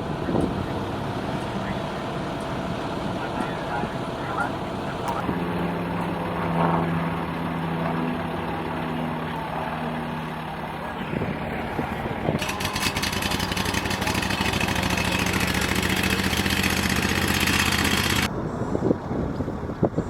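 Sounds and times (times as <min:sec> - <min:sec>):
large engine idling: 0:00.0 - 0:18.3.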